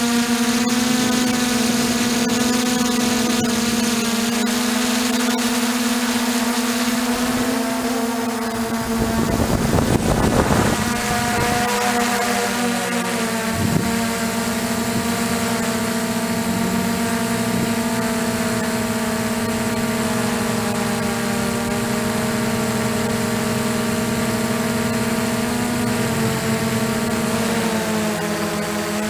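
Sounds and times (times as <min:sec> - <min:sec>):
quadcopter motors humming: 0:00.0 - 0:29.0.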